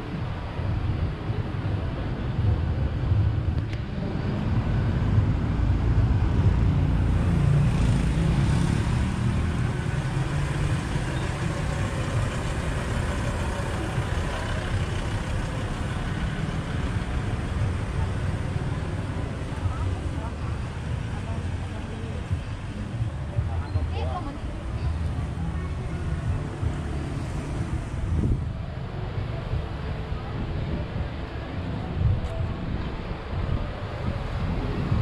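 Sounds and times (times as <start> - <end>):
motorbike engine and wind rumble: 0.0 - 35.0
traffic: 0.0 - 35.0.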